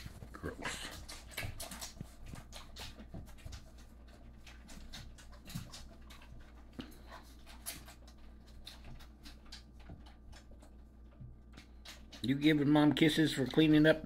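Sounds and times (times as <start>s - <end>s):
puppies nursing and slurping: 0.0s - 14.0s.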